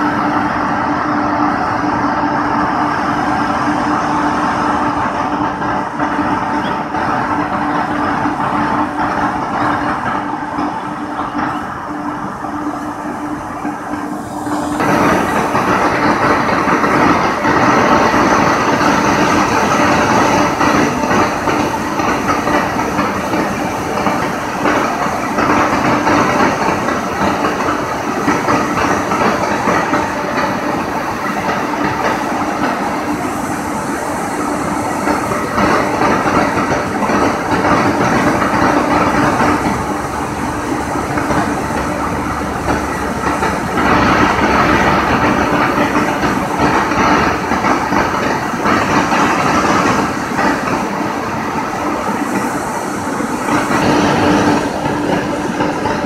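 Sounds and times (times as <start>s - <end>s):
locomotive hum: 0.0s - 56.0s
train running noise: 0.0s - 56.0s.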